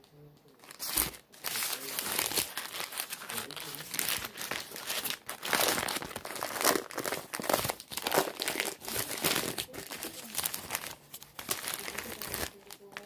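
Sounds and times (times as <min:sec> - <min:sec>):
paper wrapper crinkling: 0:00.4 - 0:13.0.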